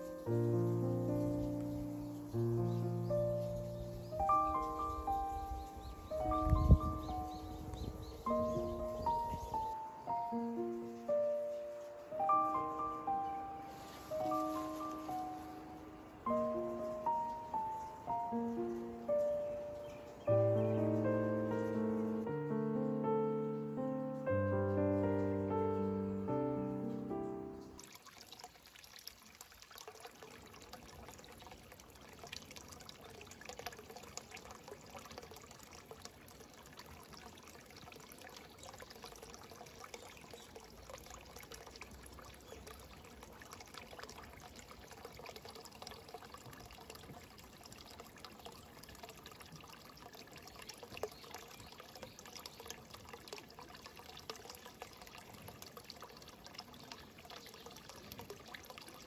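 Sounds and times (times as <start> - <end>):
water trickling into pond: 0.0 - 59.0.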